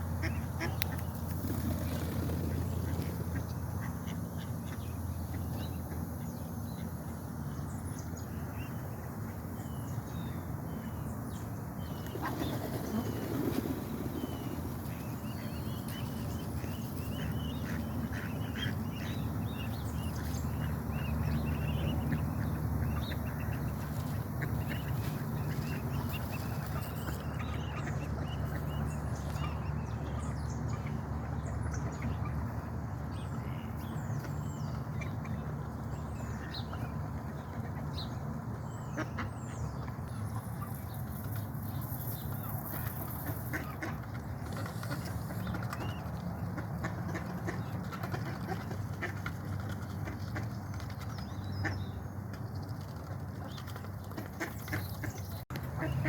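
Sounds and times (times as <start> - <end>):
ducklings peeping: 0.0 - 56.0.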